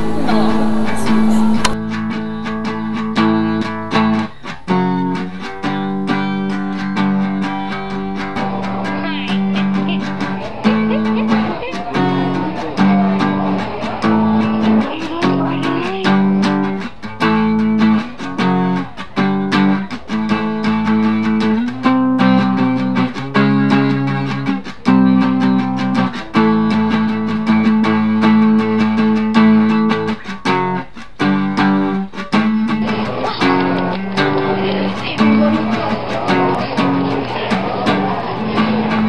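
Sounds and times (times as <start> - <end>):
guitar strumming chords: 0.0 - 39.0.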